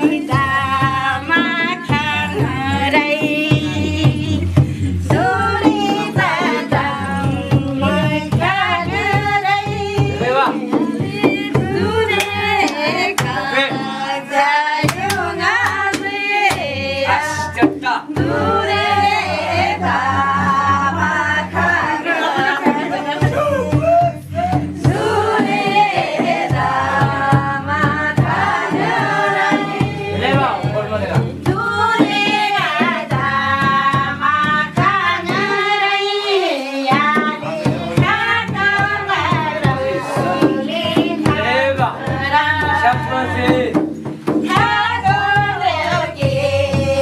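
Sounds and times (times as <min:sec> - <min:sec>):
group singing a song: 0:00.0 - 0:47.0.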